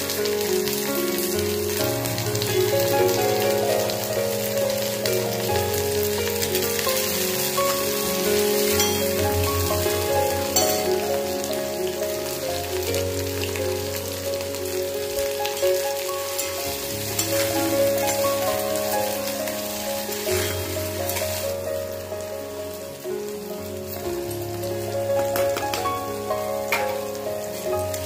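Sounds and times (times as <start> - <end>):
instrumental background music: 0.0 - 28.0
vegetables sizzling in hot oil: 0.0 - 28.0.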